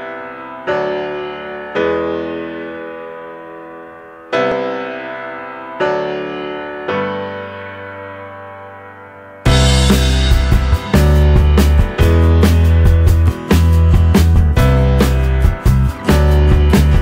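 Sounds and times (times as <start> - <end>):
slow keyboard chords: 0.0 - 17.0.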